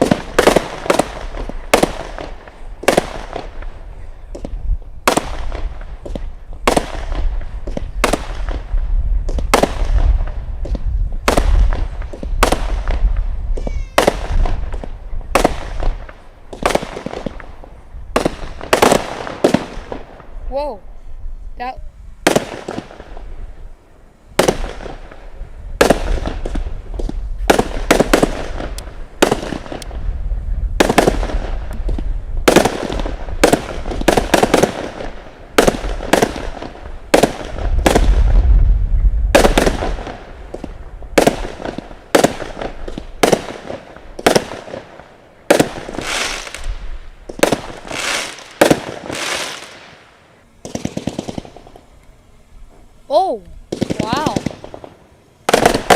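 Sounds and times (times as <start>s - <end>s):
firework bangs with crackle: 0.0s - 20.5s, 22.2s - 23.6s, 24.3s - 52.0s, 53.7s - 55.9s.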